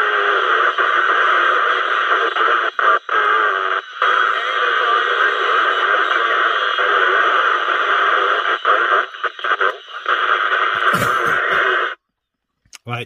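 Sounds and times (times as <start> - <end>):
garbled radio signals: 0.0 - 12.0
radio static and interference: 0.0 - 12.0.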